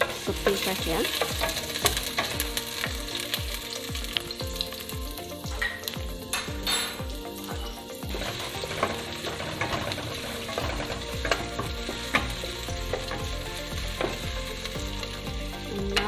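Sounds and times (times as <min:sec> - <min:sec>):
onion and garlic sizzling in oil: 0:00.0 - 0:16.0.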